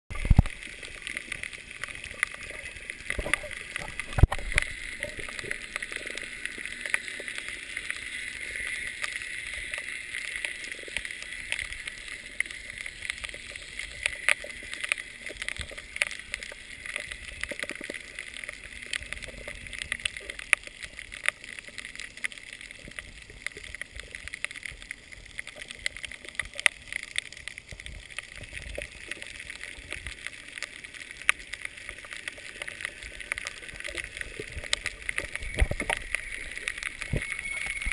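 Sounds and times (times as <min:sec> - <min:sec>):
small clicks and crackles: 0:00.1 - 0:37.9
underwater hiss of water: 0:00.2 - 0:37.9.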